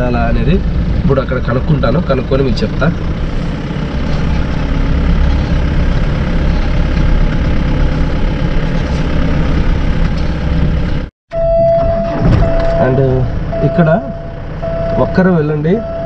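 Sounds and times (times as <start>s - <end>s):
motorcycle engine rumbling: 0.0s - 16.0s
road noise: 0.0s - 16.0s.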